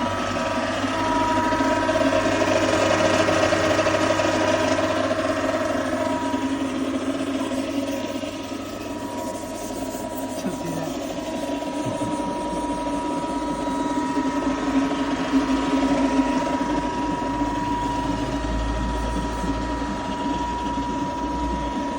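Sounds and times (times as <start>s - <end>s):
diesel engine running: 0.0s - 21.9s
high whine: 0.0s - 21.9s.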